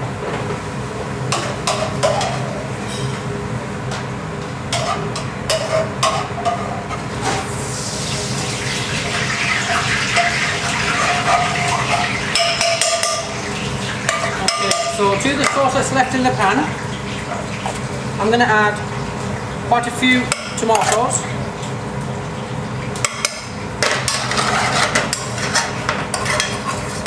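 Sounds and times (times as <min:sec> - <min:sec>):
gas burner roaring: 0:00.0 - 0:27.0.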